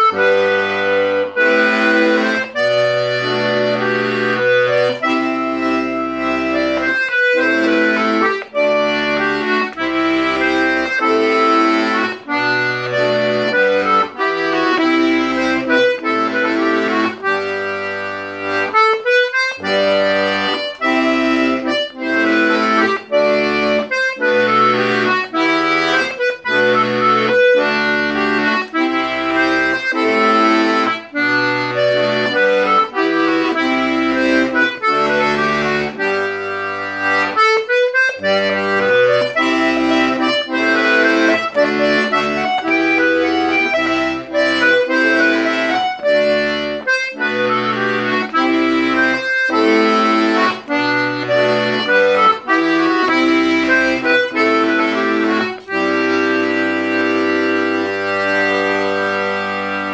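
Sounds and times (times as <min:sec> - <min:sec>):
button accordion playing: 0:00.0 - 0:59.9.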